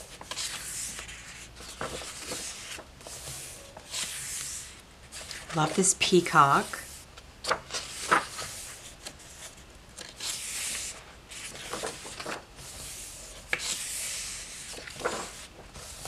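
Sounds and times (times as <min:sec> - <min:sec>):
paper pages turning: 0:00.0 - 0:16.0
hands smoothing pages: 0:00.2 - 0:16.0.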